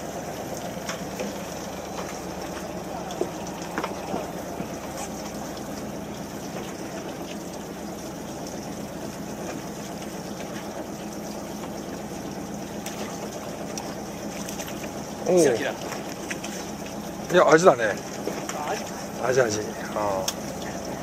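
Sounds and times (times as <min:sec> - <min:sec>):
boat engine idling: 0:00.0 - 0:21.0
water lapping against hull: 0:00.0 - 0:21.0.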